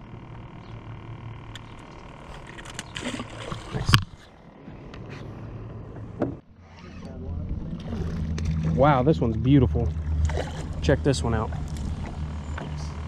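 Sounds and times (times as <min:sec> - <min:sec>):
low hum with high whine: 0:00.0 - 0:13.0.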